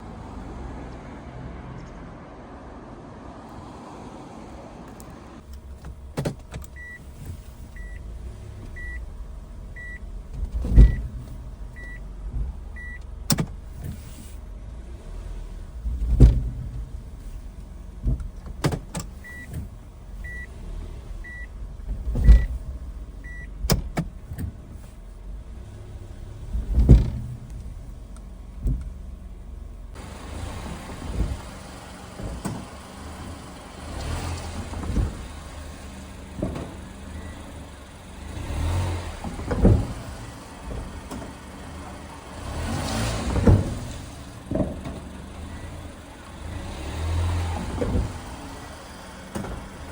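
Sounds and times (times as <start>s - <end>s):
suspension clunking: 4.8s - 49.9s.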